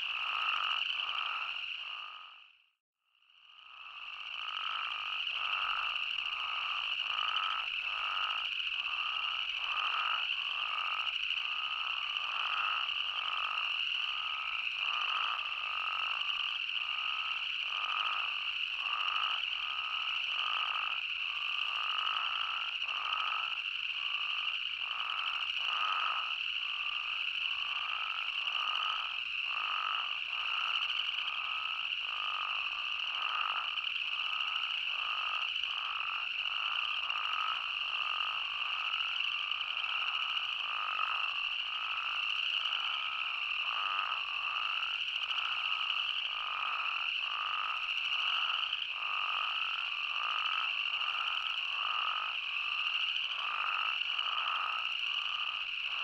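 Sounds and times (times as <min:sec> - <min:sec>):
toads calling: 0:00.0 - 0:02.4, 0:03.7 - 0:56.0.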